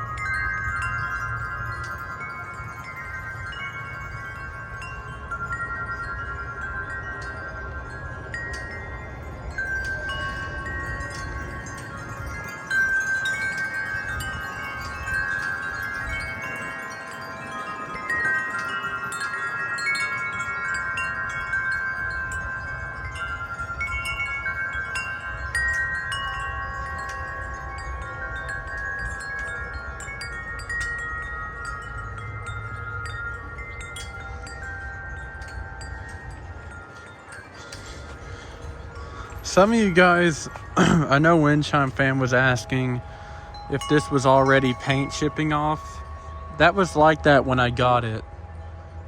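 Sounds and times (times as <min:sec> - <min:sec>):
low rumble of wind: 0:00.0 - 0:49.0
wind chime ringing: 0:00.0 - 0:49.0.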